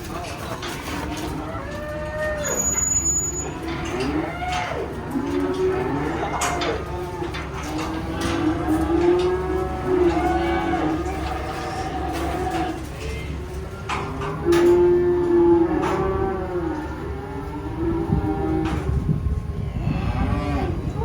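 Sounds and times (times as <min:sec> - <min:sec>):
cattle mooing: 0:00.9 - 0:13.2, 0:14.0 - 0:19.0, 0:19.6 - 0:21.0.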